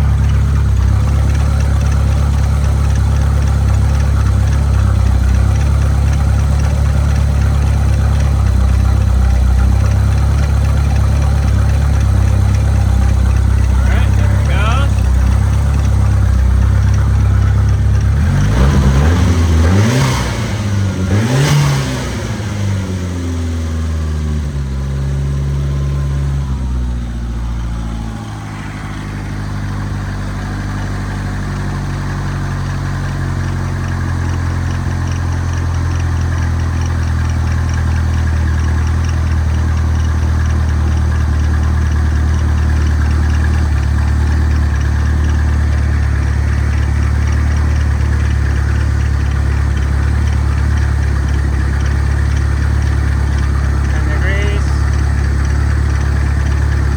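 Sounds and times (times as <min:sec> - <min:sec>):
turbo engine revving and idling: 0:00.0 - 0:56.9.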